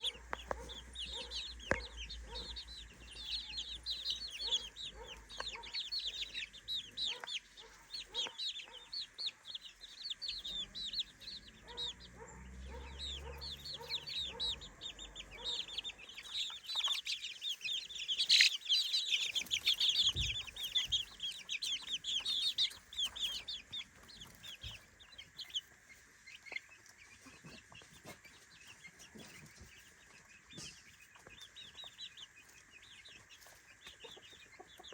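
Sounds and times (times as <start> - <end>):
chicks peeping: 0.0 - 34.9.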